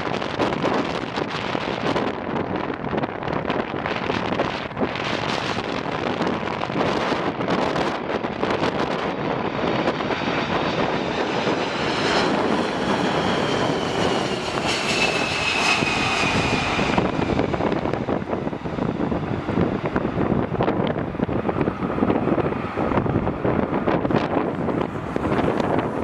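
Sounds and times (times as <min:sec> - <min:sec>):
airliner engine rushing: 0:00.0 - 0:26.0
wind buffeting microphone: 0:00.0 - 0:26.0.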